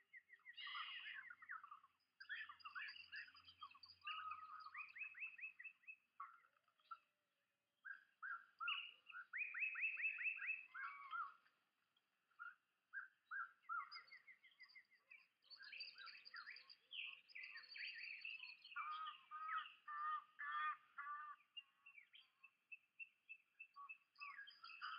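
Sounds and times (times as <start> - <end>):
songbirds chirping and trilling: 0.0 - 24.9.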